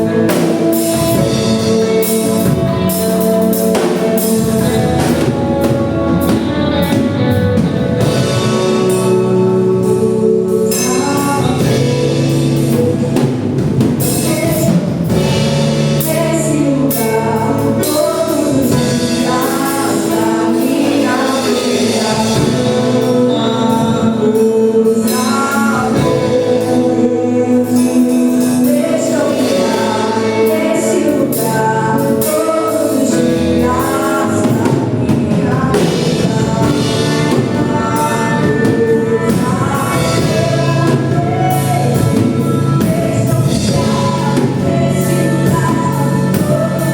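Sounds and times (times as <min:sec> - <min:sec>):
band accompaniment: 0:00.0 - 0:46.9
people singing together: 0:00.0 - 0:46.9.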